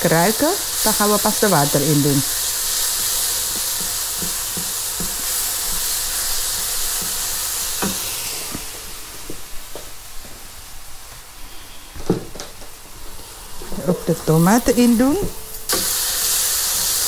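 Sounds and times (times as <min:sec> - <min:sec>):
paste sizzling in oil: 0:00.0 - 0:09.7, 0:13.0 - 0:17.0.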